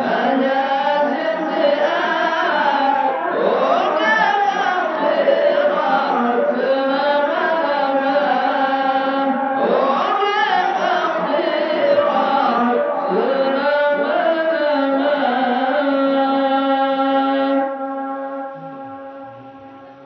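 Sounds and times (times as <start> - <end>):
voices chant-like singing: 0.0 - 20.0.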